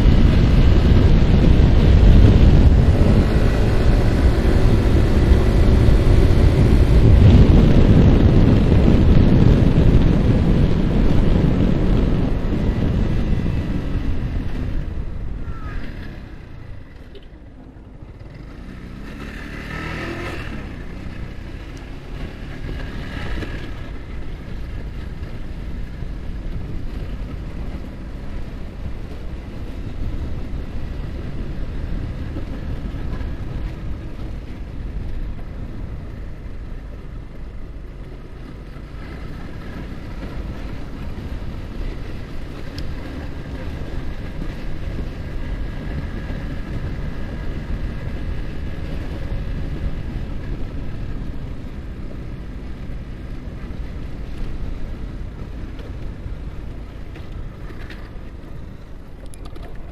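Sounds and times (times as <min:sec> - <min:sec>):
motorcycle engine cruising: 0:00.0 - 0:59.9
wind noise on microphone: 0:00.0 - 0:59.9.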